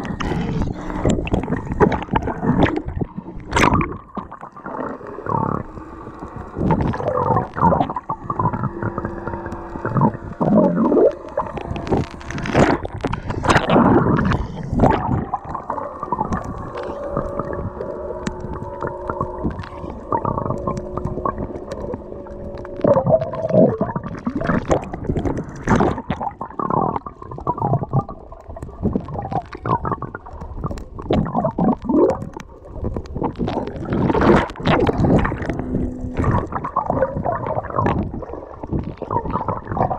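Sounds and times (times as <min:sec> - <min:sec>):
faint steady hums: 0:00.0 - 0:39.9
underwater gurgling and sloshing: 0:00.0 - 0:39.9
water splashing: 0:00.0 - 0:39.9.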